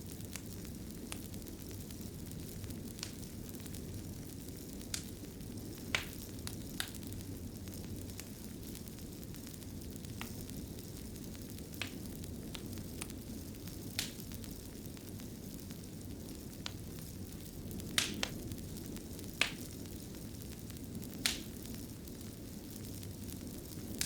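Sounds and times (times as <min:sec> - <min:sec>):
fire crackles and pops: 0:00.0 - 0:24.0
low rumble of fire: 0:00.0 - 0:24.0.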